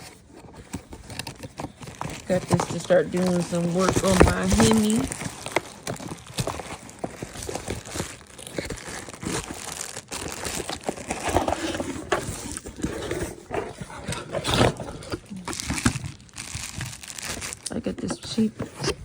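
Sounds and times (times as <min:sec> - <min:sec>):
packaging rustling and crinkling: 0:00.0 - 0:19.0.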